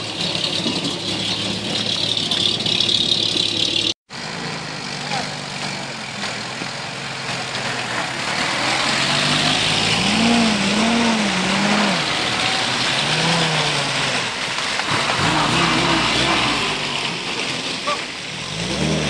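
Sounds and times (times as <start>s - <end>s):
engines revving: 0.0s - 19.0s
military vehicles driving past: 0.0s - 19.0s.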